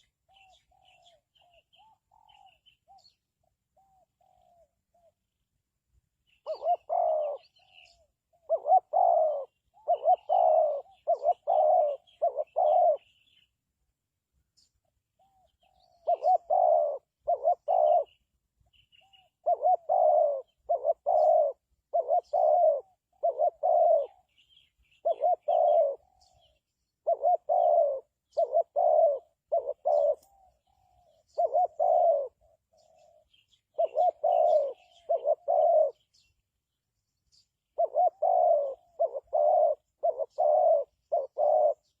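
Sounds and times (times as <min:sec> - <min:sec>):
dove cooing: 0:00.0 - 0:05.4, 0:06.3 - 0:13.5, 0:14.8 - 0:36.4, 0:37.3 - 0:42.0
small birds chirping: 0:00.0 - 0:42.0.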